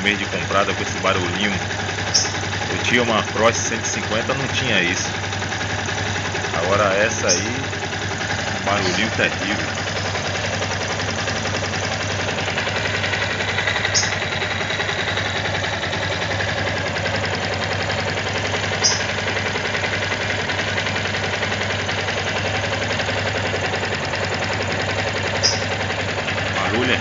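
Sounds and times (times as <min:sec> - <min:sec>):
engine rattle and tapping: 0:00.0 - 0:27.0
motorcycle engine idling: 0:00.0 - 0:27.0.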